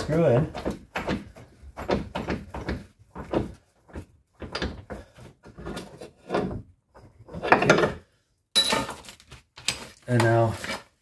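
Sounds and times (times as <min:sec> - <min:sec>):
metal knocks and clunks: 0:00.0 - 0:09.0.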